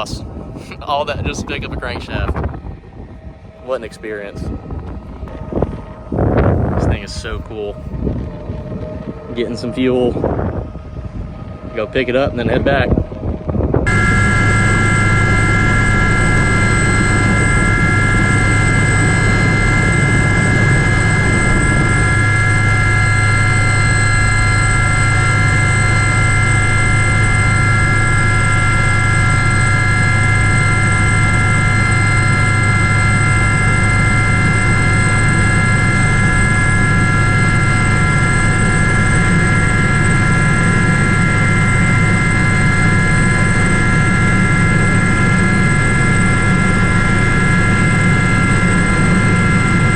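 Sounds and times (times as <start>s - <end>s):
high engine whine: 0.0s - 49.9s
low rotor hum: 0.0s - 49.9s.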